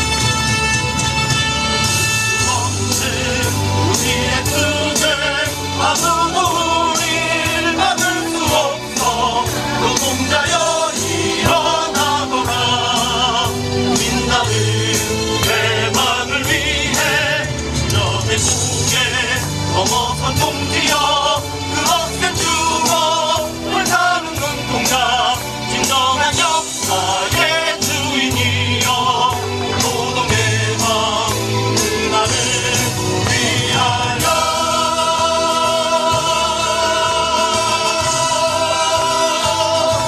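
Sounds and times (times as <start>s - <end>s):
band with drums and bass: 0.0s - 40.0s
several voices singing: 2.3s - 40.0s.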